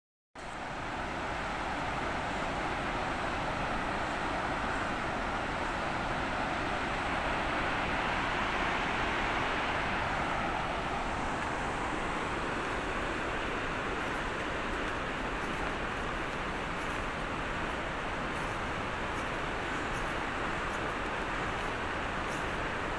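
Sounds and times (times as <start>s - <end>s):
river rushing over boulders: 0.4s - 22.9s.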